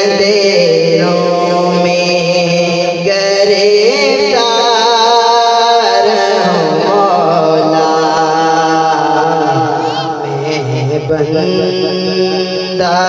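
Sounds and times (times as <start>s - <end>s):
man singing long wavering notes: 0.0s - 13.0s.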